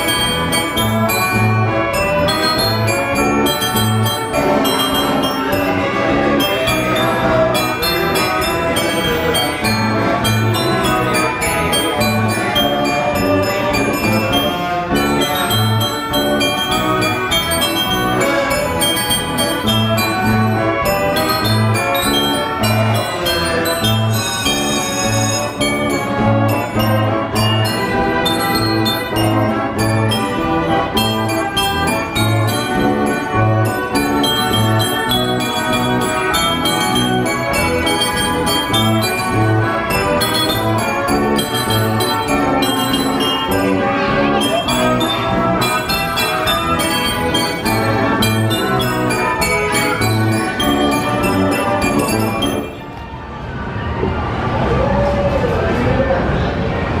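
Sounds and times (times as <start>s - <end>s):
band organ playing a tune: 0.0s - 52.8s.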